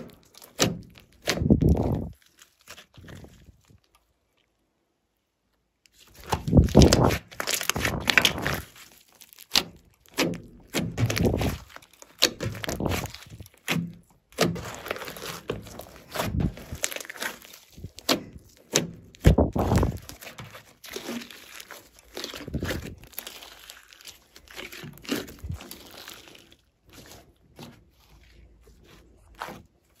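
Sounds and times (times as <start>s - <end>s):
slime popping: 0.0s - 4.0s, 6.0s - 28.1s
hands squishing slime: 0.0s - 4.4s, 5.9s - 30.0s.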